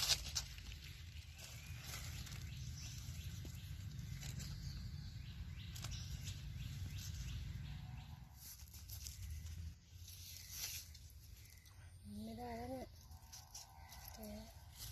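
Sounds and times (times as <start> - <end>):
dry leaves crackling and rustling: 0.0 - 14.9.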